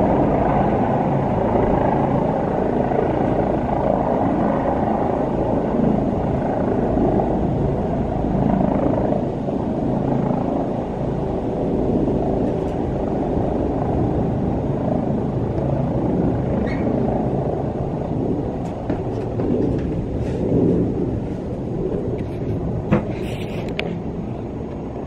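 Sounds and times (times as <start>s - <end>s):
helicopter rotors rumbling: 0.0s - 25.0s.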